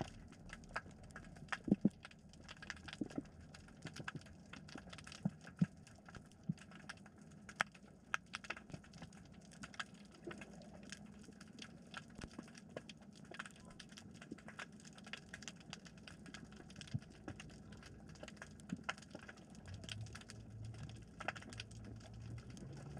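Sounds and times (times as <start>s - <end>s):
underwater clicks and crackles: 0.0s - 22.9s.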